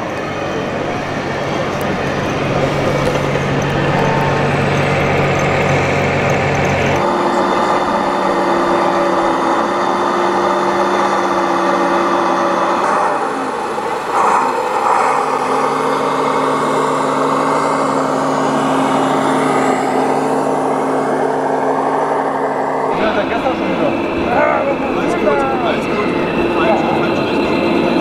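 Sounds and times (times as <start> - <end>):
simulated diesel engine sound: 0.0 - 28.0.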